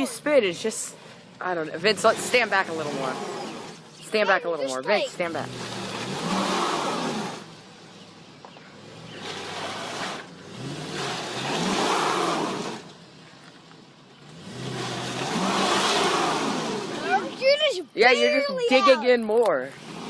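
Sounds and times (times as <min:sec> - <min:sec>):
car engine revving: 0:00.0 - 0:19.0, 0:19.6 - 0:20.0.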